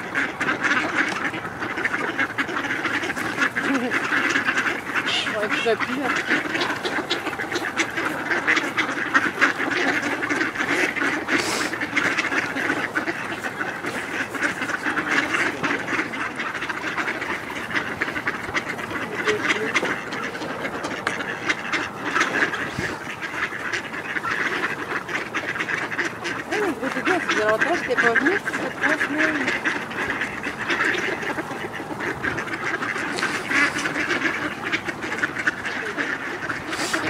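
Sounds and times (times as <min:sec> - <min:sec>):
ducks quacking: 0:00.0 - 0:37.0.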